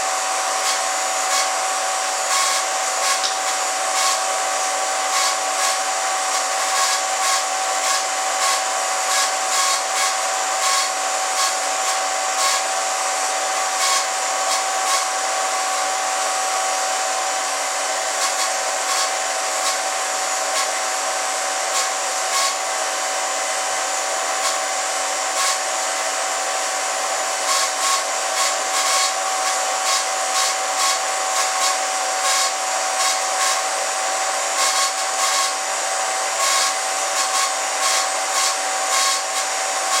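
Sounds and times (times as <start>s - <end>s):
film projector whirring: 0.0s - 40.0s.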